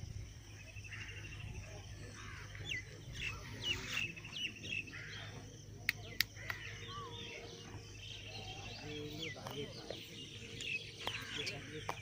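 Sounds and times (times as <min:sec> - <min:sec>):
small birds calling: 0:00.0 - 0:12.0.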